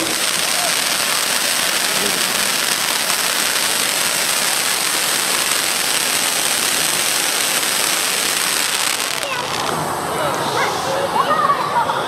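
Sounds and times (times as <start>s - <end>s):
firework fountains hissing: 0.0s - 11.8s.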